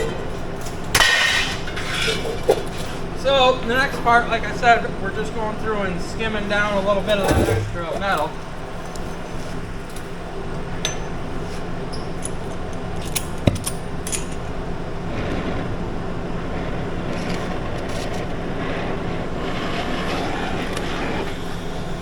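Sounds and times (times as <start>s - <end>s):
cutting torch hissing: 0.0s - 22.0s.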